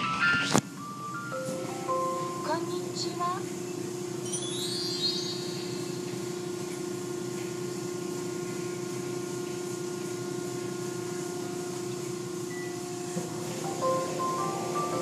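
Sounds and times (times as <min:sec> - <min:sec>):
car wash machine hum: 0:01.2 - 0:04.2, 0:05.1 - 0:15.0.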